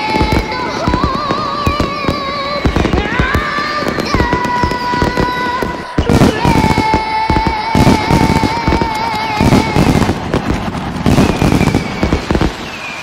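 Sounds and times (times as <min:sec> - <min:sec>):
firework shells bursting: 0:00.0 - 0:13.0
firework whistle: 0:00.0 - 0:13.0.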